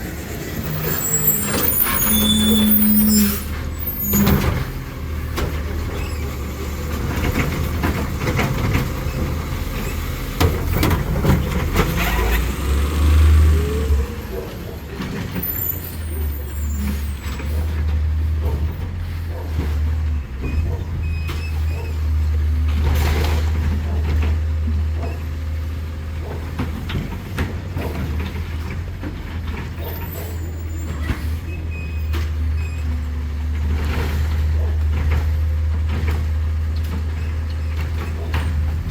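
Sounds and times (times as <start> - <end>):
garbage truck engine drone: 0.0 - 38.9.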